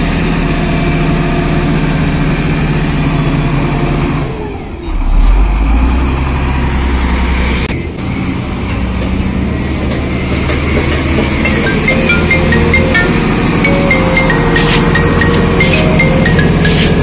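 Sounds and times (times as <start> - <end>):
excavator diesel engine working: 0.0 - 17.0.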